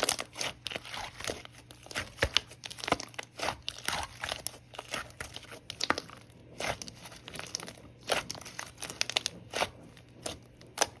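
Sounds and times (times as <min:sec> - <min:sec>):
slime squished by hand: 0:00.0 - 0:11.0.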